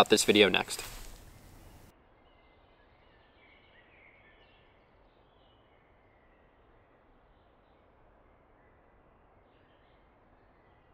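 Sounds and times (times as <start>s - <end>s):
faint outdoor hiss: 0.0s - 10.9s.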